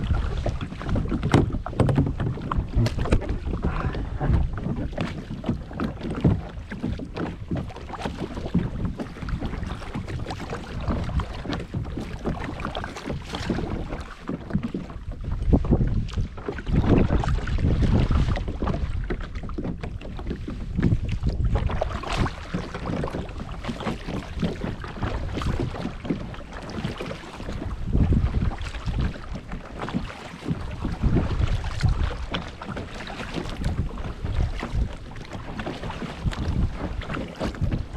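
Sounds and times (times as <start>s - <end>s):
paddle splashing in water: 0.0s - 37.9s
wind buffeting microphone: 0.0s - 37.9s.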